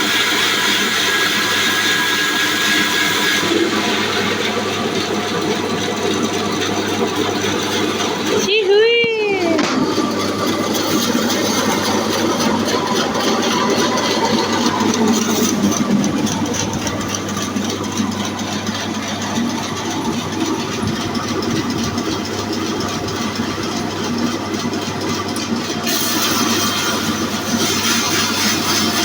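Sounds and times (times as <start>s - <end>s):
band sawmill running: 0.0s - 29.0s.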